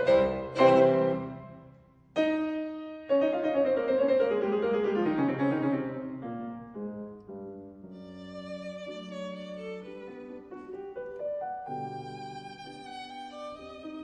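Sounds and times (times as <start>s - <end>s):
slow piano notes: 0.0s - 14.0s.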